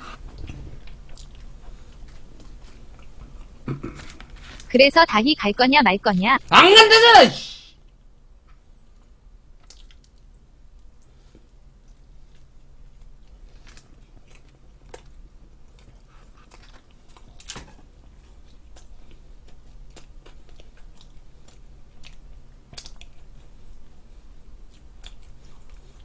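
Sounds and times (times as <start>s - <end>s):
person chewing pizza: 0.0s - 4.7s, 7.8s - 26.0s
faint steady hum: 0.0s - 26.0s.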